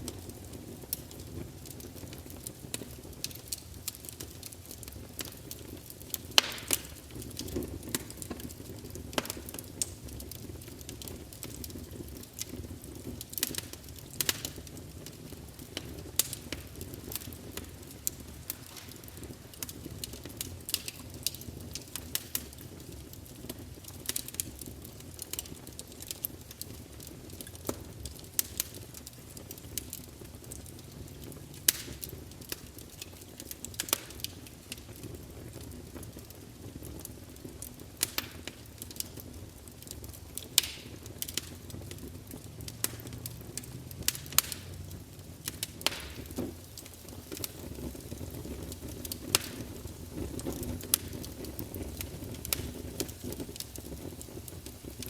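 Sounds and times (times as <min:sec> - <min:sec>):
burning wood crackling and popping: 0:00.0 - 0:55.0
campfire low rumble: 0:00.0 - 0:55.0.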